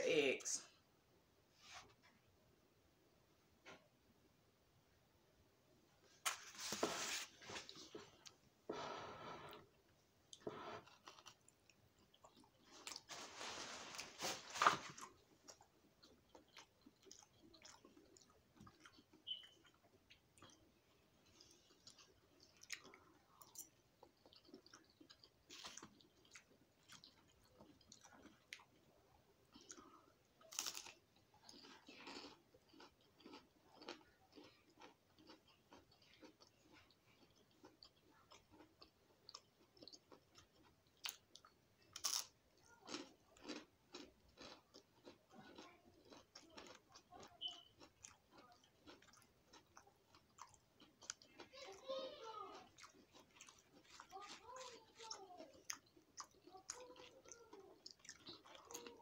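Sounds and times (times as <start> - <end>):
person chewing food: 6.0 - 51.8, 52.6 - 59.0.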